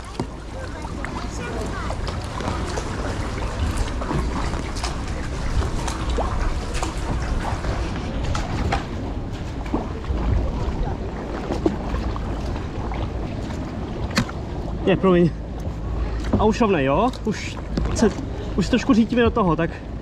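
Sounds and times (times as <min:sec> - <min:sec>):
water drips and knocks: 0:00.0 - 0:10.5, 0:11.3 - 0:14.5, 0:15.6 - 0:18.2
kayak paddle splashing: 0:00.0 - 0:20.0
wind rumble on microphone: 0:00.0 - 0:20.0.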